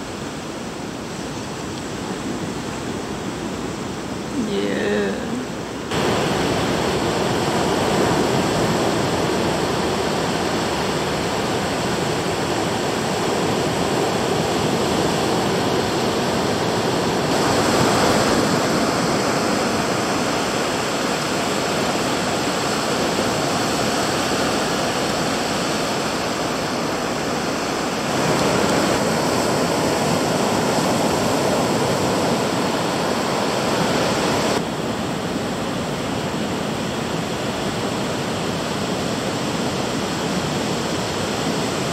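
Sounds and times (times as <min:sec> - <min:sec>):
ocean waves breaking on beach: 0:00.0 - 0:41.9.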